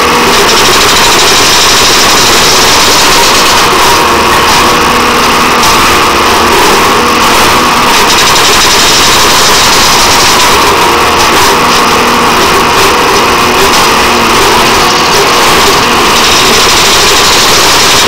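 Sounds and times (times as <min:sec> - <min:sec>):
machine engine running: 0:00.0 - 0:18.0.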